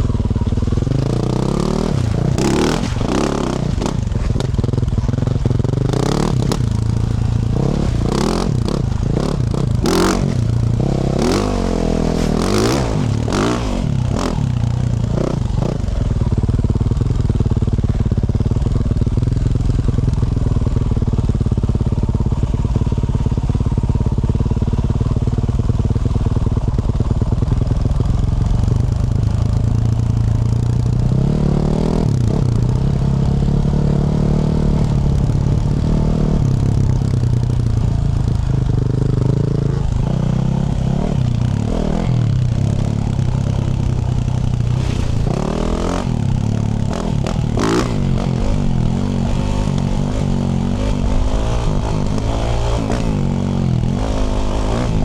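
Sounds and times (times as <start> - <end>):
engine knocks and clatter: 0.0 - 55.0
motorcycle engine revving: 0.0 - 55.0.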